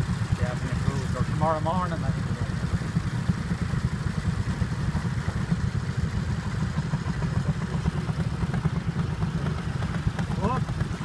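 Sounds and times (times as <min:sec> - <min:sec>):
walk-behind tractor engine running: 0:00.0 - 0:11.0.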